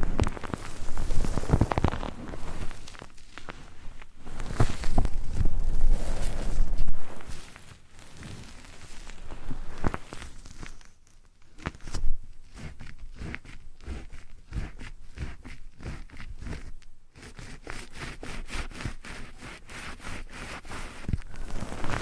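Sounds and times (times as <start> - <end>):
scratching on microphone: 0.0 - 22.0.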